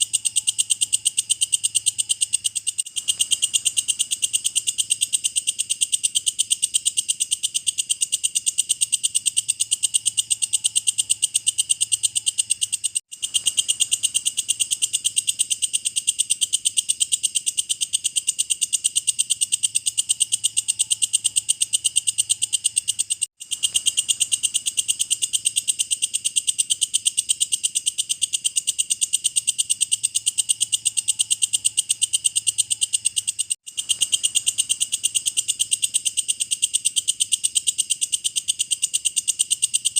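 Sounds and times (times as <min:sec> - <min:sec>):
bush cricket trilling: 0:00.0 - 0:39.9.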